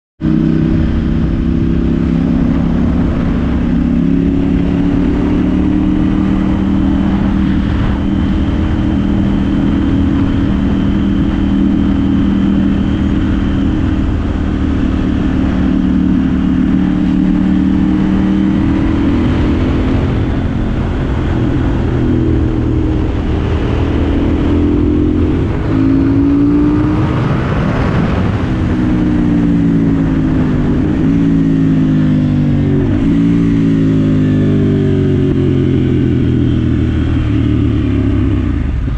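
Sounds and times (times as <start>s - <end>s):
motorcycle engine running: 0.2s - 38.9s.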